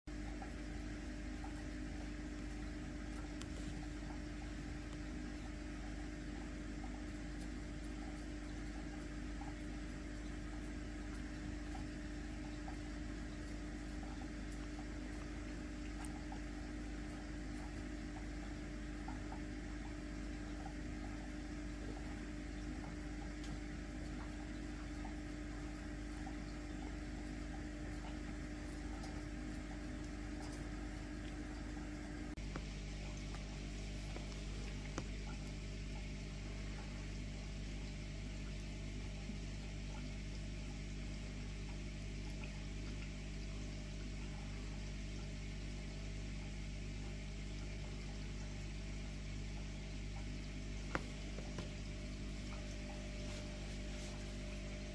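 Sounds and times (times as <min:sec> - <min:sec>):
mechanical hum with hiss: 0:00.1 - 0:54.9.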